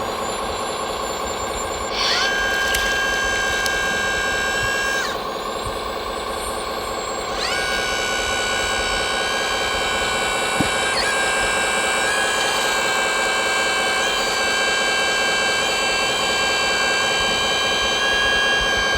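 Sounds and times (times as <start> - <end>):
electric motors whining: 0.0 - 18.9.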